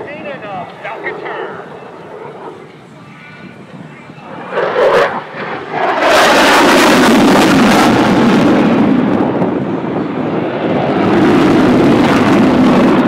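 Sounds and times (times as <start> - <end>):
jet engine roaring past: 0.0 - 13.0.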